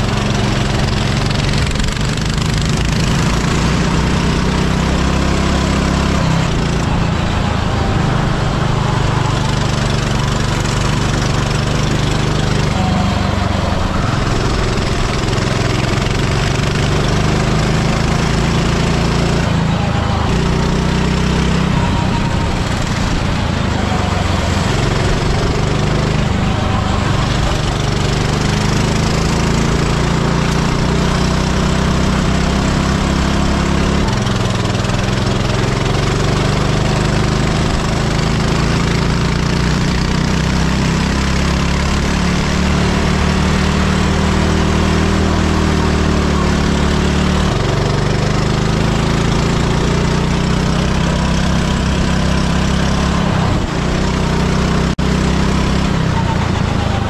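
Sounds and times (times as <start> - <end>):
go-kart engine running hard: 0.0 - 57.0
wind and road noise: 0.0 - 57.0.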